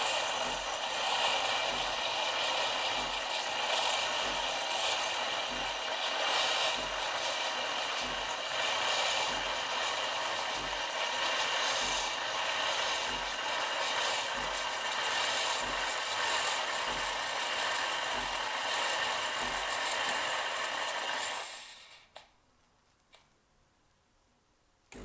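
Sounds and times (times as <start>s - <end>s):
espresso machine hissing: 0.0s - 22.2s.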